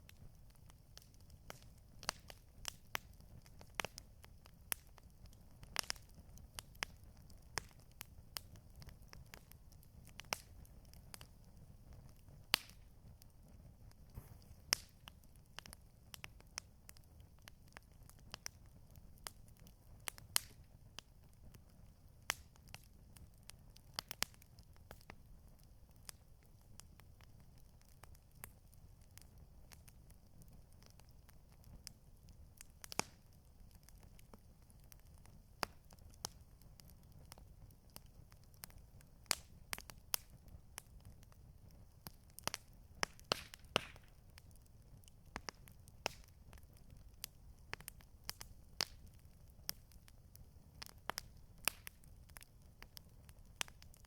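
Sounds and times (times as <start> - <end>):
campfire low rumble: 0.0 - 54.0
wood crackling and popping: 0.0 - 54.0.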